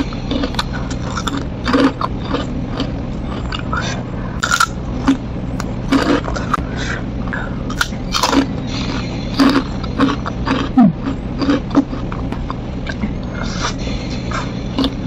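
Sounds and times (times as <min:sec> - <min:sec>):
crunching crisp fried food: 0:00.0 - 0:03.8, 0:04.4 - 0:06.6, 0:07.7 - 0:15.0
low hum: 0:00.0 - 0:15.0.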